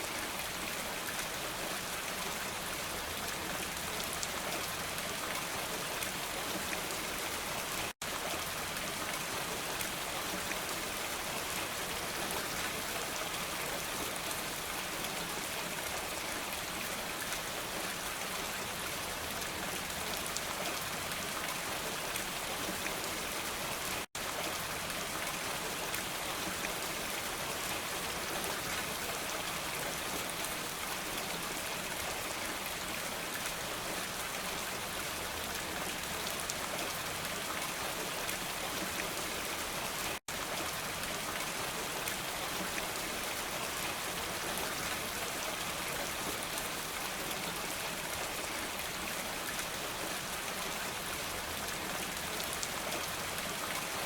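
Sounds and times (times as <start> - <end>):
dense rain pattering: 0.0 - 54.0.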